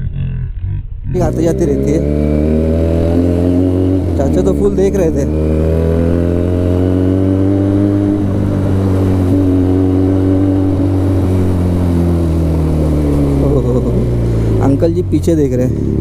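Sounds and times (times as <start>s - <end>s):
motorcycle engine exhaust note: 0.0s - 15.0s.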